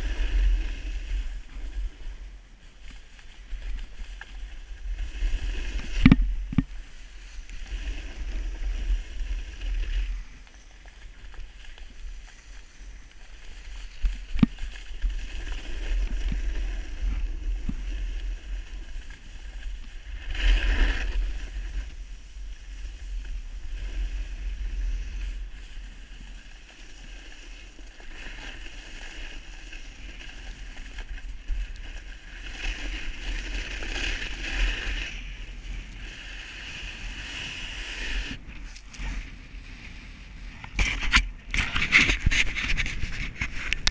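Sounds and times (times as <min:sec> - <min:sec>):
snowboard scraping over snow: 0:00.0 - 0:43.9.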